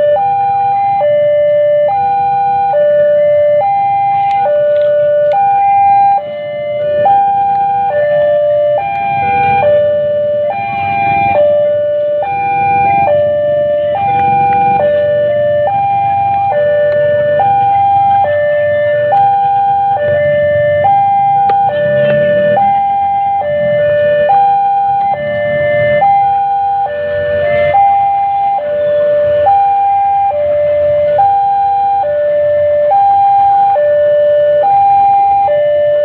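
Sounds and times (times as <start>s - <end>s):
level crossing warning alarm: 0.0s - 36.0s.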